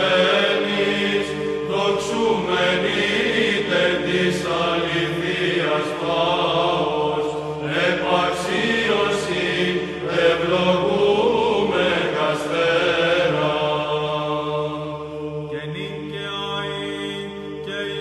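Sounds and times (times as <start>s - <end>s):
choir chanting melody: 0.0s - 18.0s
held vocal drone: 0.0s - 18.0s.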